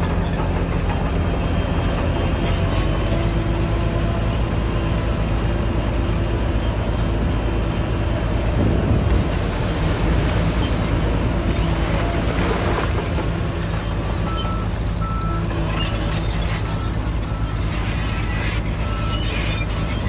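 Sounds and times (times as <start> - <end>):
diesel machinery engine drone: 0.0 - 20.0.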